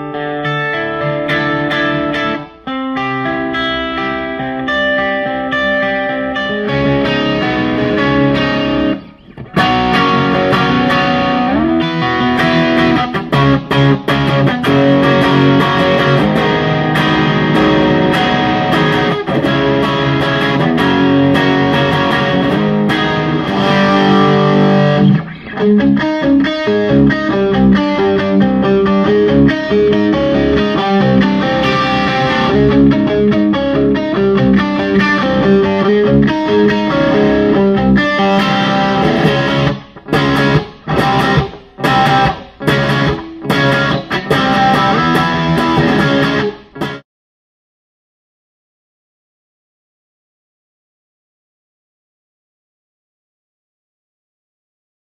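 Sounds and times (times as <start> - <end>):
overdriven electric guitar: 0.0 - 47.0.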